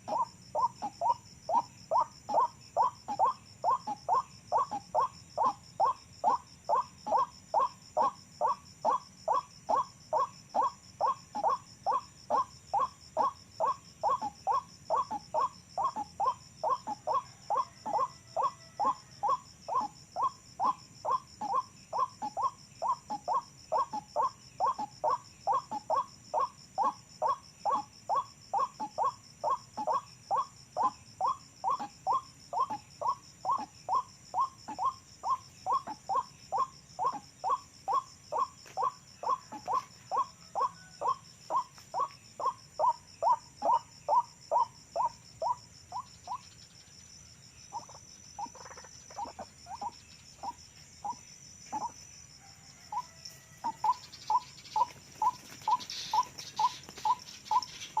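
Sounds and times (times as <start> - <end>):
bird harsh croaking call: 0.0 - 46.8, 47.7 - 52.1, 52.7 - 58.0.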